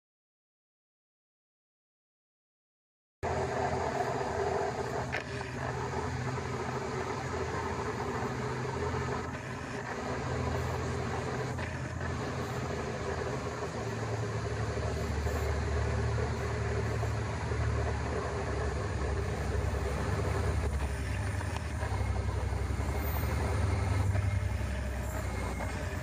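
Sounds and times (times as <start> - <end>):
diesel locomotive engine drone: 3.2 - 26.0.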